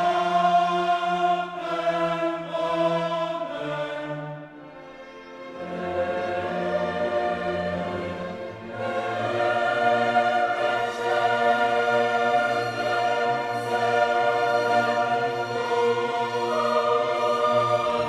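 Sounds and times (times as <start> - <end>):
choir with orchestra: 0.0 - 18.0.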